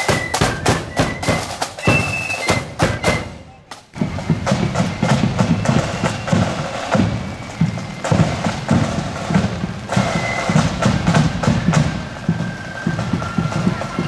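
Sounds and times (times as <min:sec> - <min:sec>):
snare drum strokes: 0:00.0 - 0:14.0.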